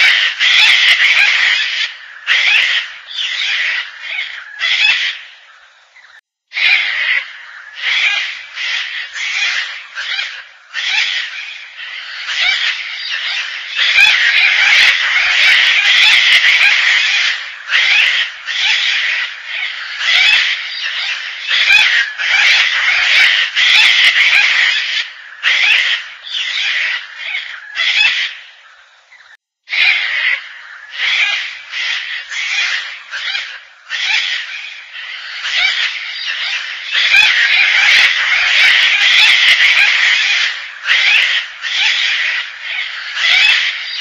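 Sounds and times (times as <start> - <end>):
cockatoos harsh creaky calls: 0.0 - 5.4, 6.1 - 28.6, 29.2 - 44.0.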